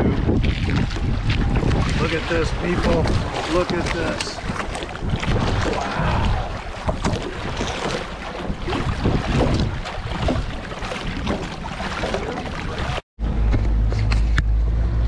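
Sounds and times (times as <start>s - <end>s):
water splashing against boat: 0.0s - 13.0s
wind buffeting microphone: 0.0s - 13.0s.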